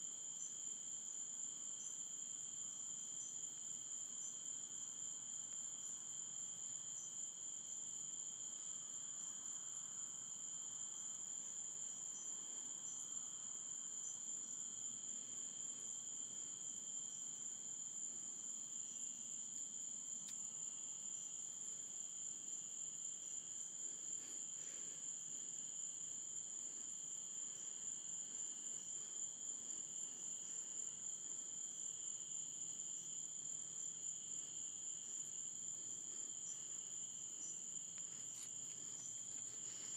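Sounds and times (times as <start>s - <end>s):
night insects chirring: 0.0s - 39.9s.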